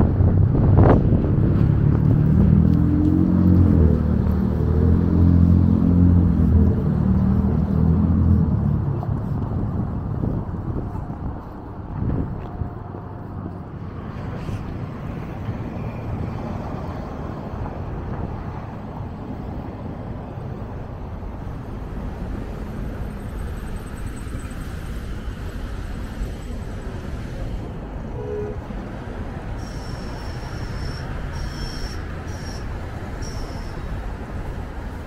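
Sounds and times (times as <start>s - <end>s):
wind on microphone: 0.0s - 31.4s
cars passing: 0.0s - 35.0s.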